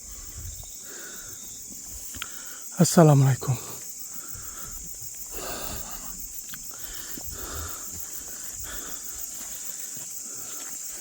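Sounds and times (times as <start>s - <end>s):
person breathing heavily: 0.0s - 2.8s, 3.5s - 11.0s
night insects chirping: 0.0s - 11.0s.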